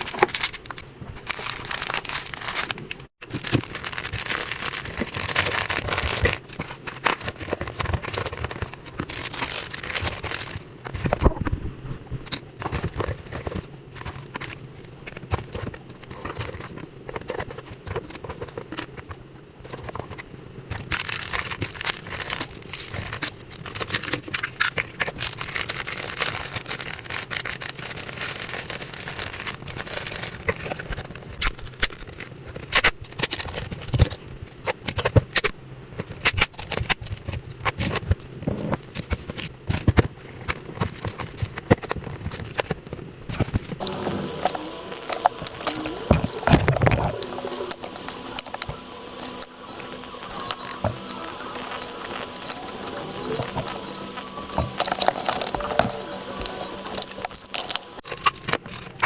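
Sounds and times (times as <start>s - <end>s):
packaging material crinkling: 0.0s - 11.5s, 12.3s - 34.1s, 43.4s - 59.0s.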